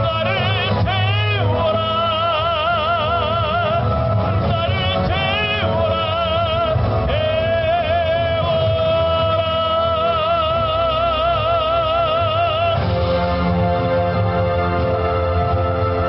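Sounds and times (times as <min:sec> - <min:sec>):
man singing with vibrato: 0:00.0 - 0:13.0
backing music: 0:00.0 - 0:16.0.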